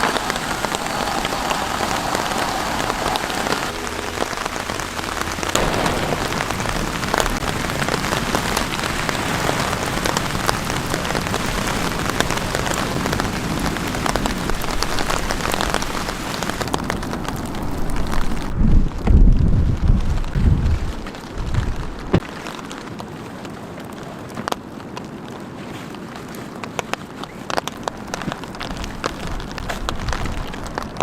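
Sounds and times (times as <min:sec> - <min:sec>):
steady rain patter: 0:00.0 - 0:31.0.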